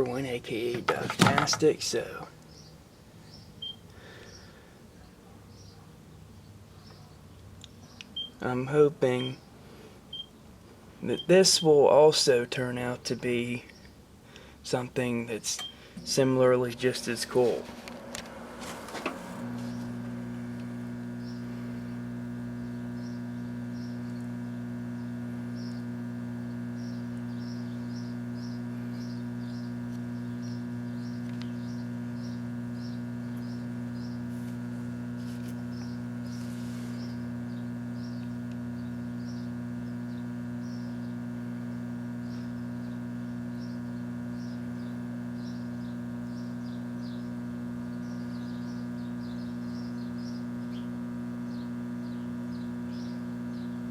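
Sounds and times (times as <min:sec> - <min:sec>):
microwave oven humming: 0:00.0 - 0:06.1, 0:06.8 - 0:53.9.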